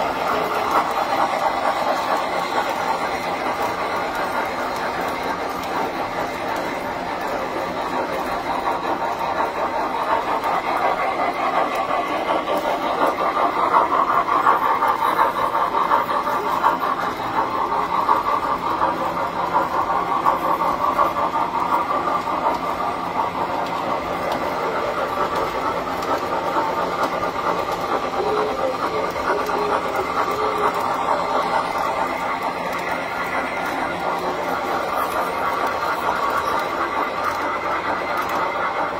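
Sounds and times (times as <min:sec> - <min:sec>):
toy train wheels clattering on track: 0:00.0 - 0:38.9.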